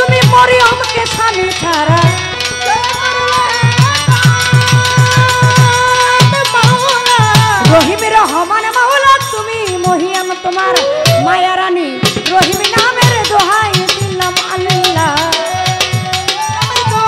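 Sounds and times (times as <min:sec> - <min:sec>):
shaken percussion: 0:00.0 - 0:11.4, 0:12.1 - 0:17.0
hand drums: 0:00.0 - 0:17.0
violin folk melody: 0:00.0 - 0:17.0.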